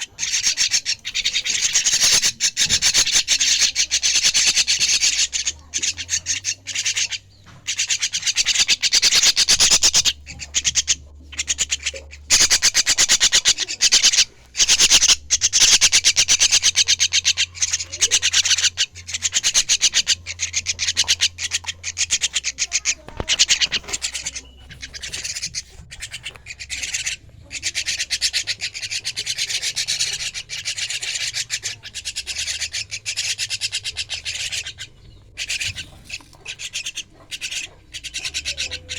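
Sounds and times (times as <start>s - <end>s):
bird chicks raspy begging calls: 0.0s - 38.9s.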